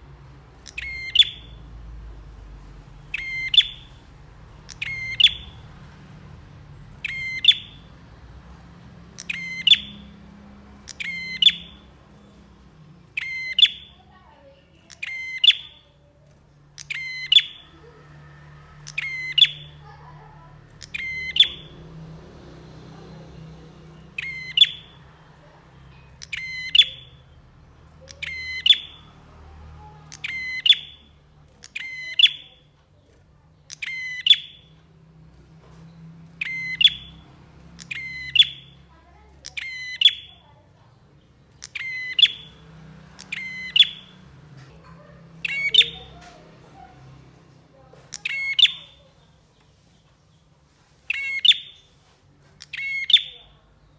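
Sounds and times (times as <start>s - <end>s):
bird chirping calls: 0.0s - 53.9s
faint low hum: 0.0s - 53.9s.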